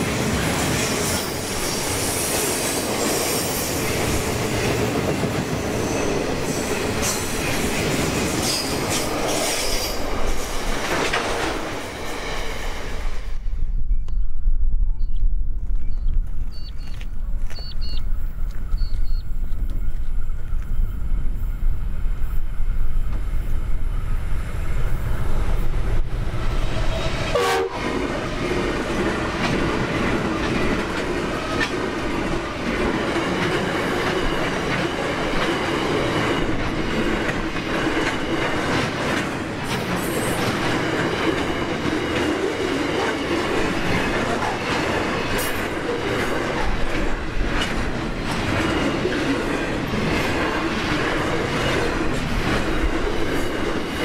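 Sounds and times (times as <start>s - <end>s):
train wheels rolling on rail: 0.0s - 15.0s, 15.6s - 54.0s.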